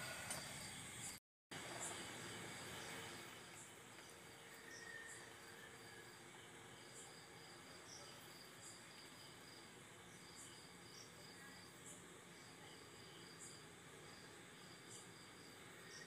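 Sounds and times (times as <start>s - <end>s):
crickets trilling: 0.0s - 16.0s
higher cricket chirp: 0.0s - 16.0s.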